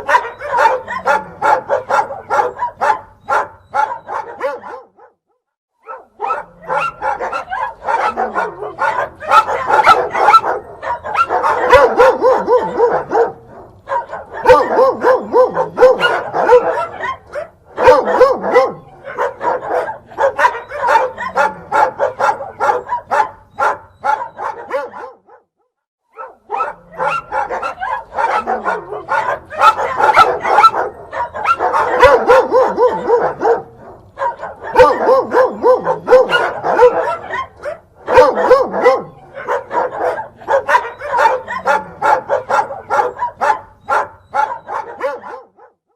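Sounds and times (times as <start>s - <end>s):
dogs barking and yipping: 0.0s - 5.2s, 5.8s - 25.4s, 26.1s - 45.8s.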